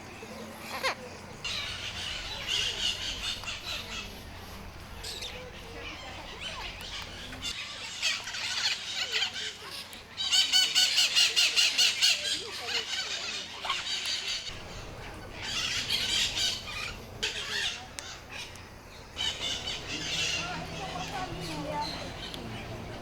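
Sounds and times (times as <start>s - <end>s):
birds squawking: 0.5s - 23.0s.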